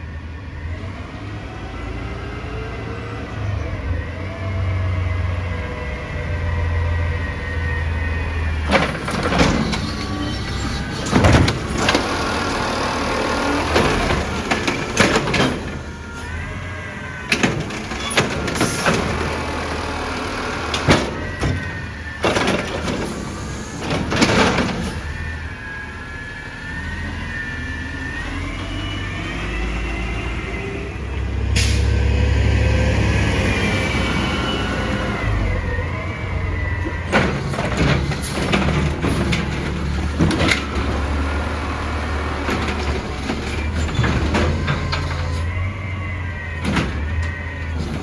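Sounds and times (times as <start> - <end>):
garbage truck engine: 0.0 - 48.0
hydraulic whine: 3.2 - 48.0.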